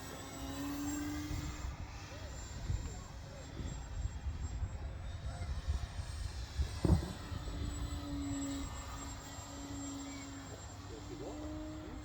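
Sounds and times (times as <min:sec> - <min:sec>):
model plane motor humming: 0:00.0 - 0:12.0.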